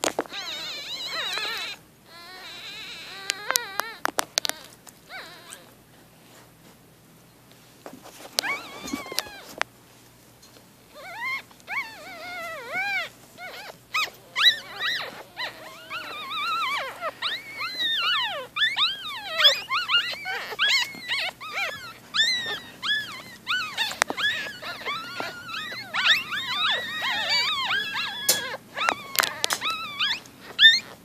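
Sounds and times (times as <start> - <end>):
puppies squeaking and crying: 0.2 - 5.8, 8.2 - 9.6, 10.9 - 31.0.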